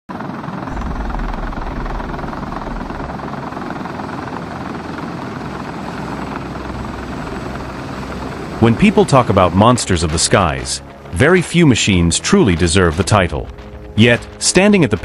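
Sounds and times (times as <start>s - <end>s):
helicopter hovering: 0.1s - 15.0s.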